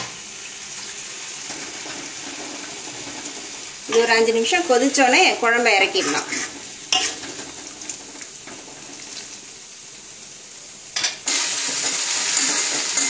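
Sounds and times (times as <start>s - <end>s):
curry simmering: 0.0s - 13.0s
okra sizzling in oil: 0.0s - 13.0s.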